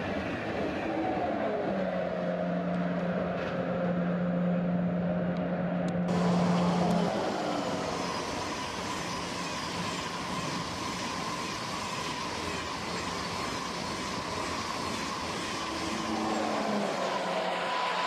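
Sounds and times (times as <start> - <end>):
high-speed train passing: 0.0 - 18.0.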